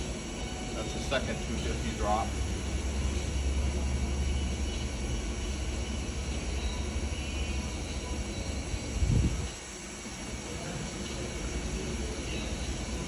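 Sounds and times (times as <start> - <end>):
milling machine hum and hiss: 0.0 - 13.0.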